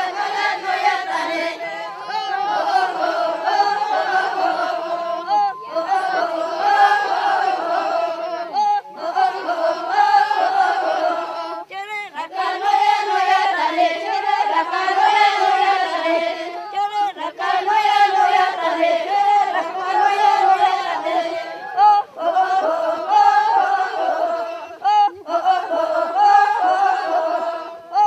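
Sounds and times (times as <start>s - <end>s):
group singing a chant: 0.0s - 28.0s.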